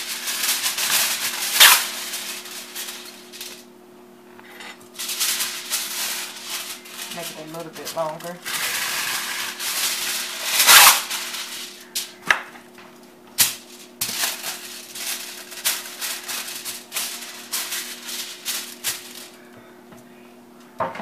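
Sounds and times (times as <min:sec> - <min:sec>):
aluminum foil crinkling: 0:00.0 - 0:03.7, 0:04.8 - 0:19.6.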